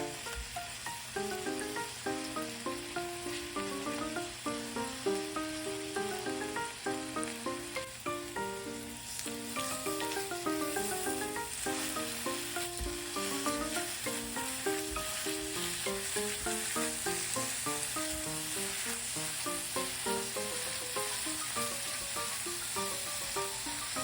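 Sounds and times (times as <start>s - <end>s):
food sizzling in a pan: 0.0s - 24.0s
light background music: 0.0s - 24.0s.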